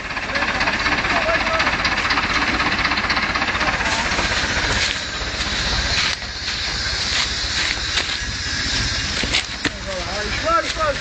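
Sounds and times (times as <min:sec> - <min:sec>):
tractor engine running hard: 0:00.0 - 0:11.0.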